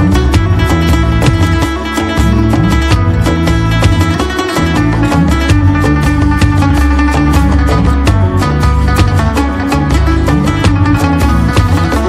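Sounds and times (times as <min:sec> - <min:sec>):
music with quick steady beat: 0:00.0 - 0:12.0
plucked-string melody: 0:00.0 - 0:12.0.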